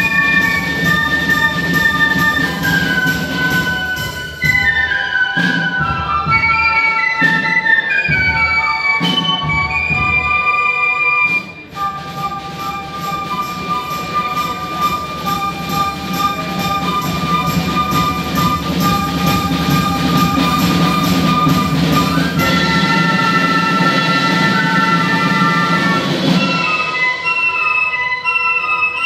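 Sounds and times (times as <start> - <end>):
brass and wind band playing: 0.0 - 29.0.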